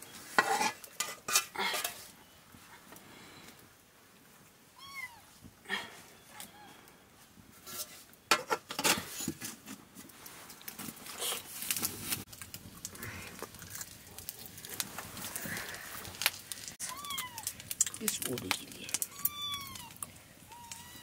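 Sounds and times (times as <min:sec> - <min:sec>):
wood fire crackling: 0:00.0 - 0:08.3, 0:09.0 - 0:21.0.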